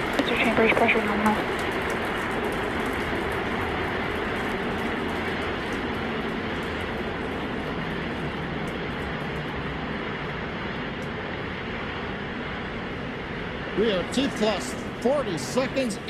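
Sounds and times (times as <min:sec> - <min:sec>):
faint crackles: 0:00.0 - 0:16.0
rocket engines rumbling: 0:00.0 - 0:16.0.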